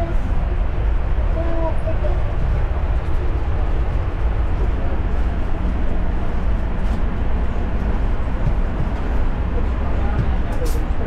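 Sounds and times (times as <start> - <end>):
train rumbling in tunnel: 0.0 - 11.0.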